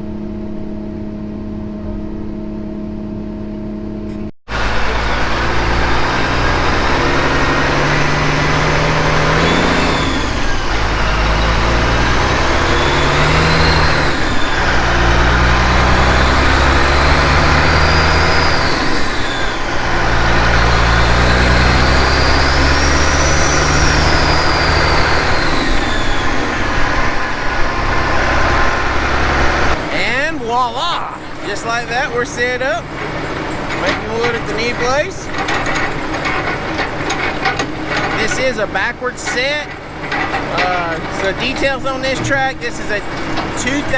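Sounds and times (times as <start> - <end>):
diesel truck accelerating: 0.0 - 43.9.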